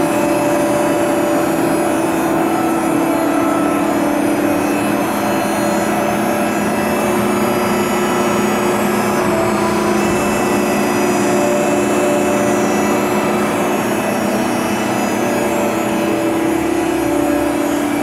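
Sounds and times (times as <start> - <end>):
plate bending machine drone: 0.0 - 18.0.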